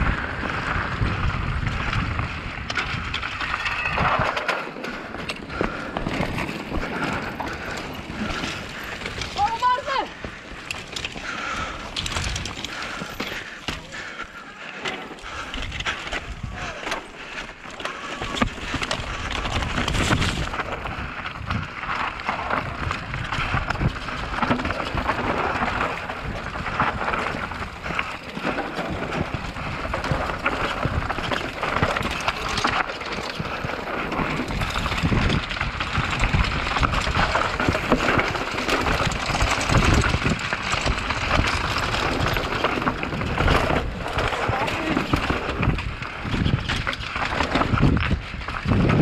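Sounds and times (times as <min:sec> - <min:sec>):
mountain bike rattling over rocks: 0:00.0 - 0:49.0.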